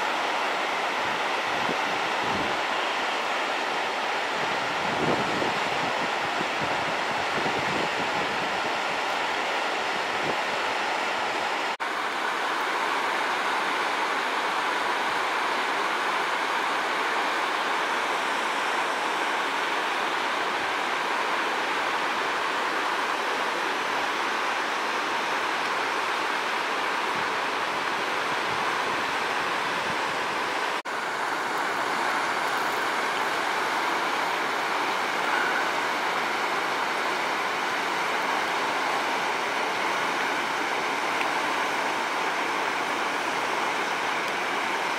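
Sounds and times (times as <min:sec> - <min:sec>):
river rapids rushing over rocks: 0:00.0 - 0:44.9.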